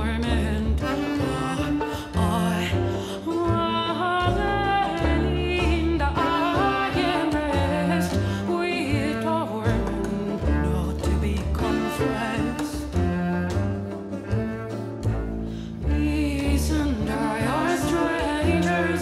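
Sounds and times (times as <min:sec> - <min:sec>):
woman singing with vibrato: 0:00.0 - 0:13.0, 0:15.8 - 0:19.0
chamber ensemble bowed strings: 0:00.0 - 0:19.0.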